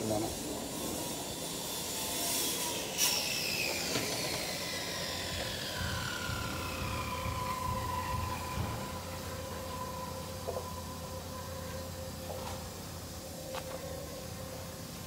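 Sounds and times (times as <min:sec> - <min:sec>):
aircraft engine whine: 0:00.0 - 0:15.0.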